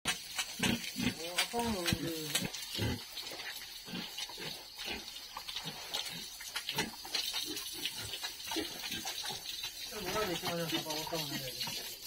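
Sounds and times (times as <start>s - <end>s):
hose water splashing: 0.1s - 12.0s
pigs grunting: 0.4s - 11.9s.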